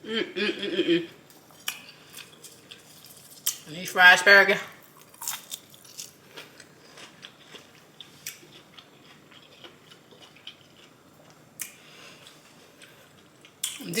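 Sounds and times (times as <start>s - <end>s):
person chewing crunchy food: 1.3s - 3.7s, 4.7s - 13.8s.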